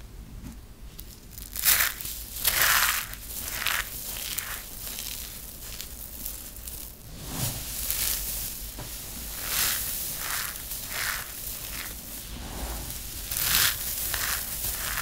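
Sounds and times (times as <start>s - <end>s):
soap shavings crunching: 1.0s - 15.0s.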